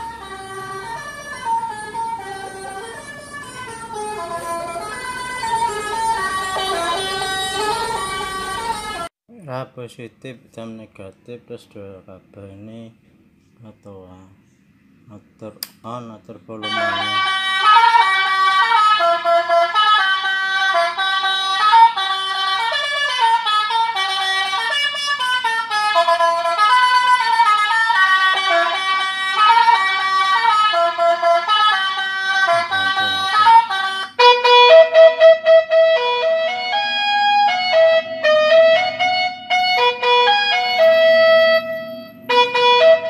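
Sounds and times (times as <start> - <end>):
electronic horn melody: 0.0 - 9.1, 16.6 - 43.0.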